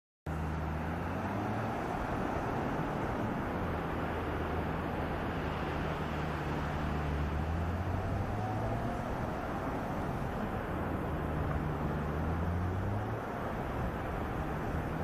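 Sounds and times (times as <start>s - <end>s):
constant rushing noise: 0.3s - 15.0s
vehicle engine humming: 0.3s - 15.0s.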